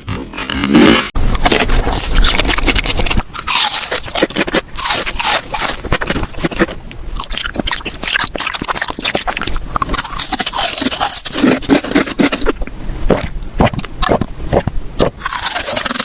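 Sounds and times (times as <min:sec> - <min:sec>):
person chewing crunchy food: 0:00.0 - 0:16.0.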